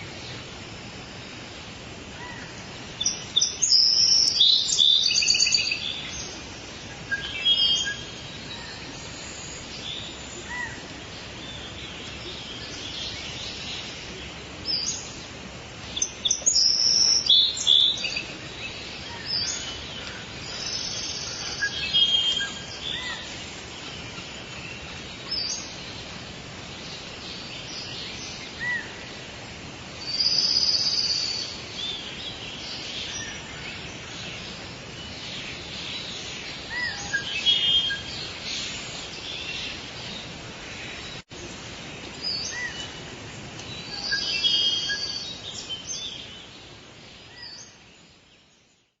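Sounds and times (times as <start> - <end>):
background hiss: 0.0 - 49.0
birds chirping and calling: 2.2 - 48.3.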